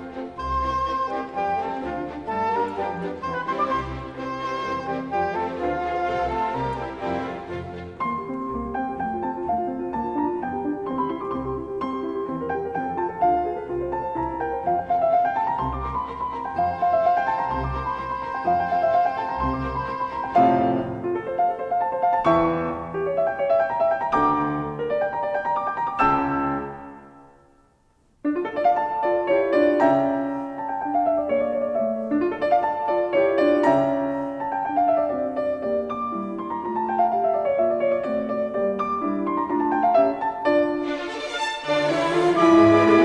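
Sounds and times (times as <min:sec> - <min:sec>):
solo piano music: 0:00.0 - 0:43.0.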